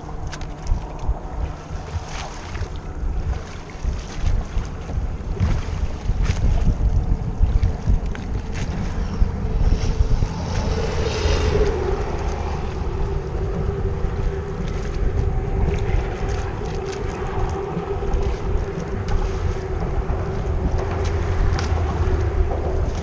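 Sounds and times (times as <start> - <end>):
steady hum: 0.0 - 23.0
wind buffeting microphone: 0.0 - 23.0.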